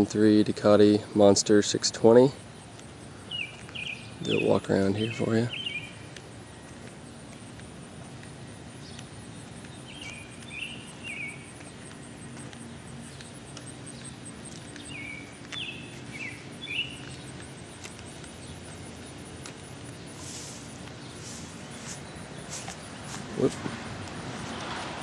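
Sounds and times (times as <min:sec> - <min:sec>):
low background hum: 0:00.0 - 0:25.0
bird chirping: 0:02.5 - 0:07.4, 0:08.4 - 0:24.8.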